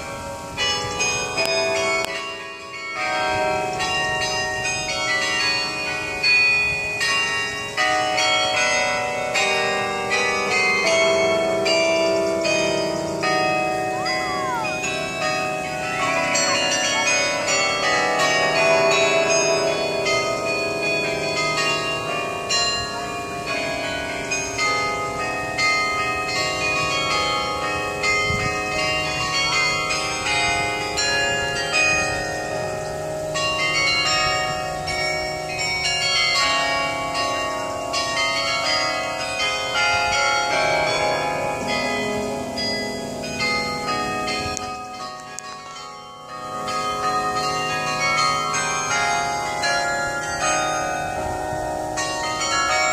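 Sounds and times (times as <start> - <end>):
carillon bells playing a tune: 0.0 - 52.9.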